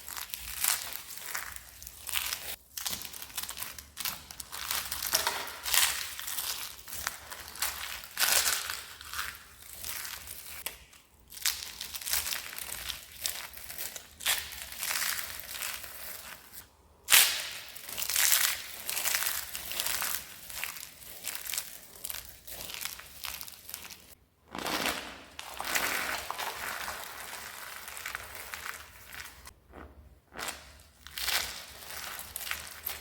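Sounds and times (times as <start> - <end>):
dry soap crunching: 0.0 - 33.0.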